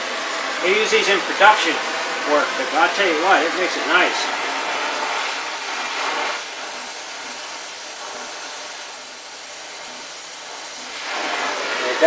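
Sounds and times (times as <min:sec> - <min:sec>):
torch flame hissing: 0:00.0 - 0:12.0.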